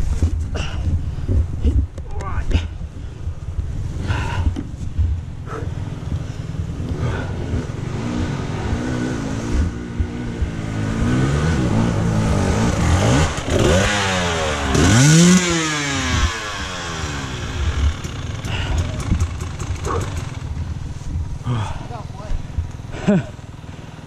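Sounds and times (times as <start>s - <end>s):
dirt bike engines revving: 0.6s - 24.0s.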